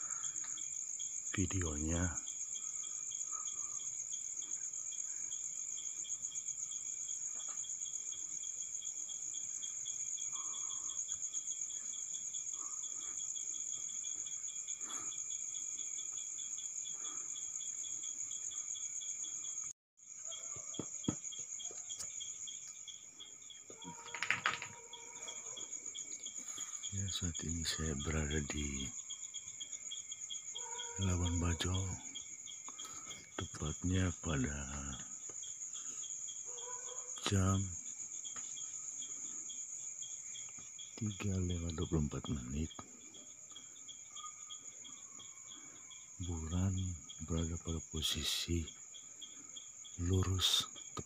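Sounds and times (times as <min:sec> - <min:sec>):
crickets trilling: 0:00.0 - 0:51.0
lower cricket chirping: 0:00.0 - 0:51.0.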